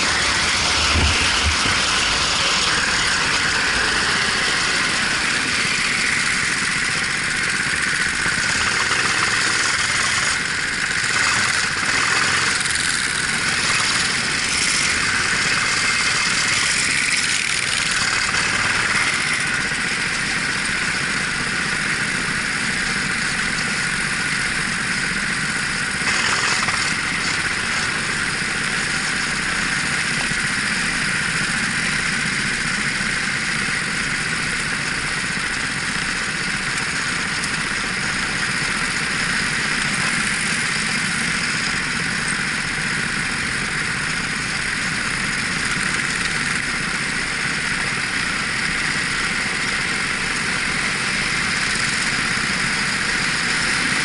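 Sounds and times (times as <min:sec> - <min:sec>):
racing kart engine running: 0:00.0 - 0:54.0.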